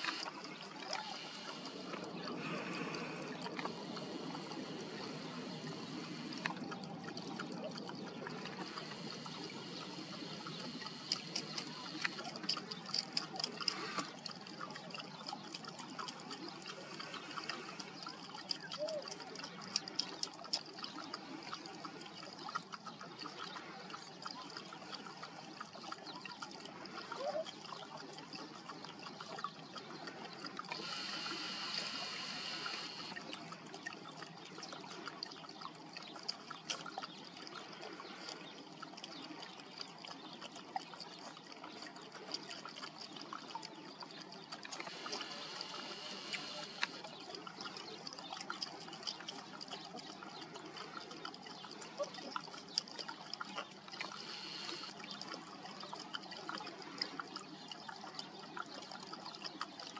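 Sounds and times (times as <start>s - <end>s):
puppies suckling: 0.0s - 35.1s, 35.8s - 59.9s
dogs lapping water: 0.0s - 59.9s.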